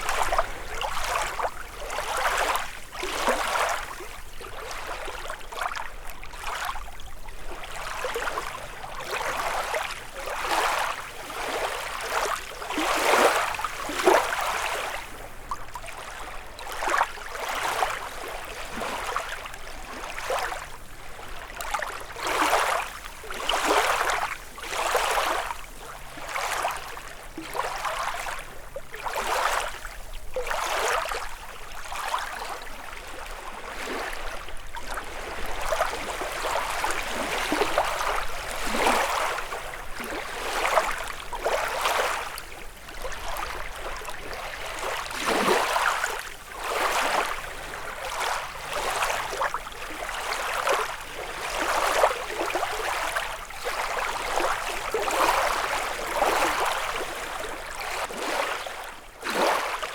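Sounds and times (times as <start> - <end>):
waves lapping against shore: 0.0 - 59.9.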